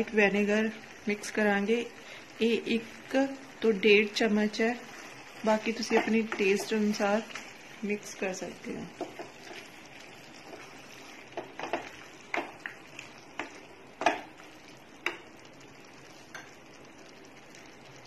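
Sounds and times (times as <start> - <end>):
food sizzling: 0.0 - 18.0.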